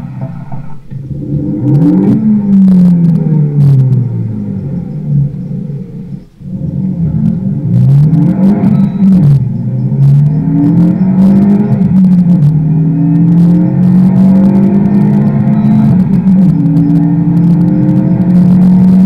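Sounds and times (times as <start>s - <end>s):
car engine accelerating hard: 0.0s - 19.0s
exhaust crackles: 0.0s - 19.0s.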